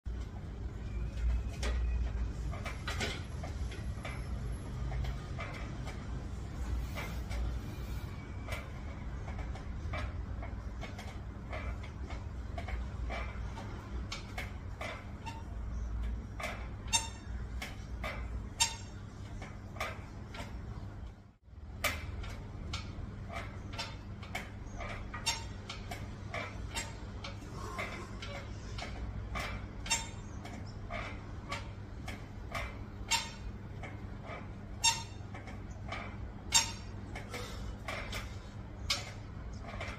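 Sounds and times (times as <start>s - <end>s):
clicks and knocks from pull-up station: 1.1s - 7.6s, 8.4s - 20.6s, 21.7s - 39.9s.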